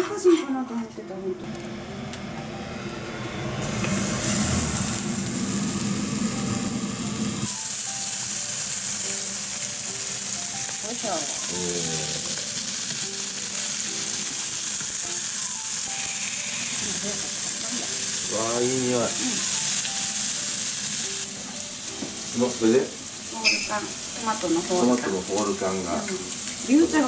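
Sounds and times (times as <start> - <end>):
patties sizzling in a frying pan: 3.8 - 27.0.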